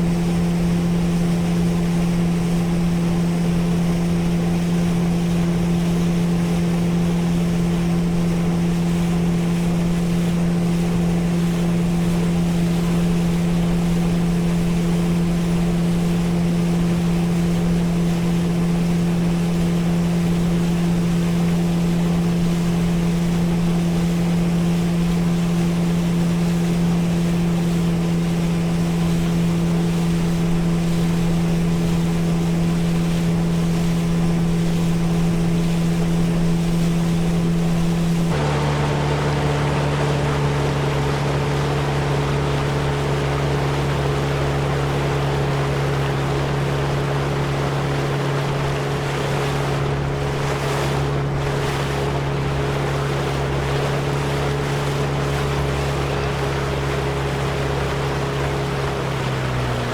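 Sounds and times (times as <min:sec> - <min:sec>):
motorboat engine running: 0:00.0 - 0:59.9
water rushing past hull: 0:00.0 - 0:59.9
wind: 0:00.0 - 0:59.9.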